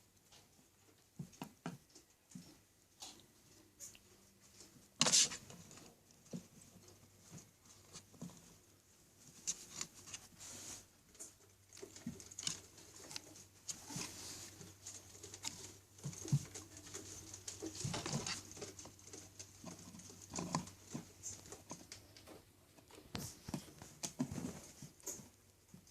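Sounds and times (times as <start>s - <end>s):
pets scratching and scuffling: 3.5s - 25.4s.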